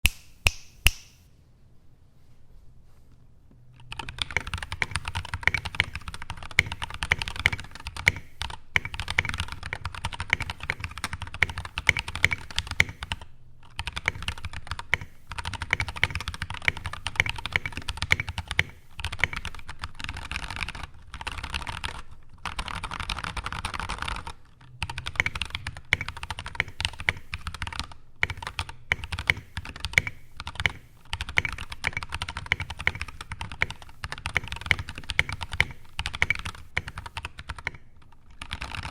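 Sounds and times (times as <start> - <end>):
typing on mechanical keyboard: 3.8 - 38.9.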